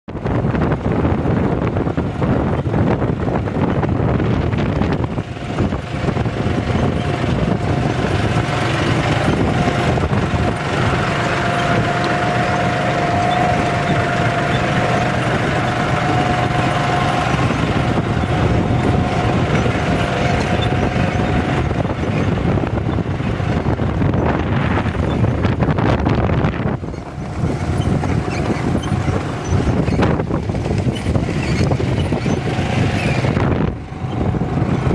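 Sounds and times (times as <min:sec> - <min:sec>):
tractor engine under load: 0:00.1 - 0:34.9
wind on microphone: 0:00.1 - 0:34.9.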